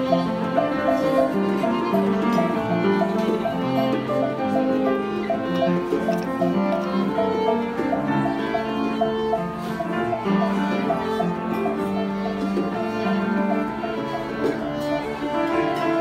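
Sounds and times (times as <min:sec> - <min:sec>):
piano: 0:00.0 - 0:16.0
violin playing held lines: 0:00.0 - 0:16.0.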